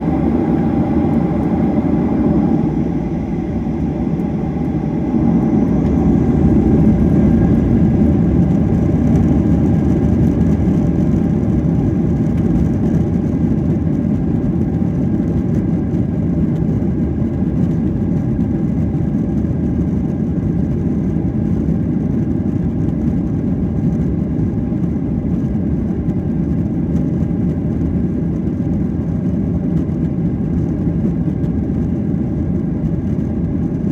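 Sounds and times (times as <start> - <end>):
jet engine rumble in cabin: 0.0 - 33.9.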